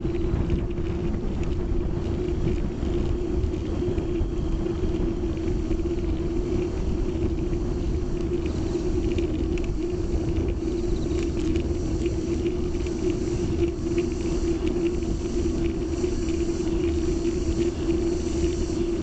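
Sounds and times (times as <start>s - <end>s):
faint cicada song: 0.0s - 19.0s
steady hum: 0.0s - 19.0s
wind buffeting microphone: 0.0s - 19.0s.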